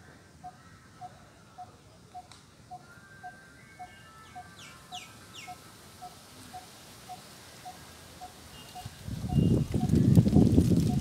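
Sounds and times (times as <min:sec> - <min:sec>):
high downward-sweeping bird calls: 0:00.4 - 0:10.0.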